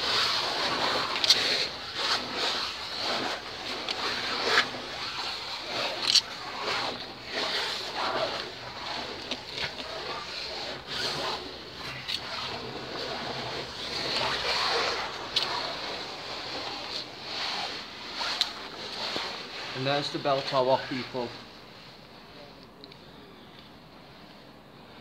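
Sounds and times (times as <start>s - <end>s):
clothing rustle: 0.0s - 22.6s.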